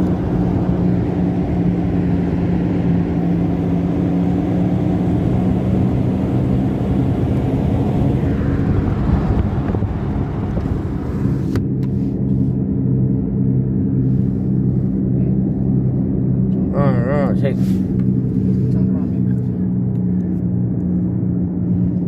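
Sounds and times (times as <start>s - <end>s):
tyre and road noise: 0.0s - 22.0s
wheel bearing droning hum: 0.0s - 22.0s.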